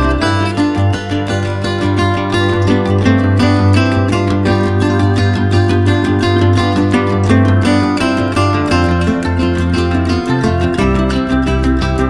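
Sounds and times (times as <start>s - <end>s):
plucked strings music: 0.0s - 12.0s.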